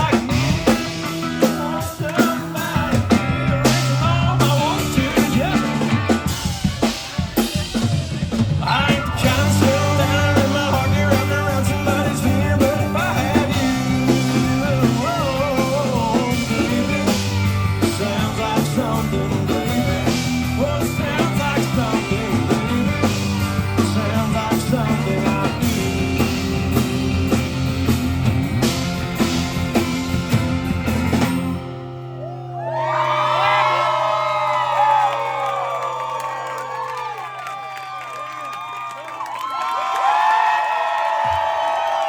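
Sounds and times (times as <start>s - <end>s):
live country band playing: 0.0s - 34.4s.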